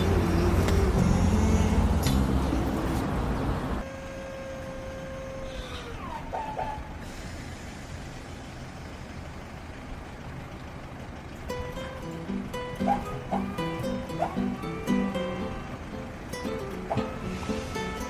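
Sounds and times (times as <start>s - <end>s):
car engine rumbling: 0.0s - 4.2s, 4.9s - 18.0s.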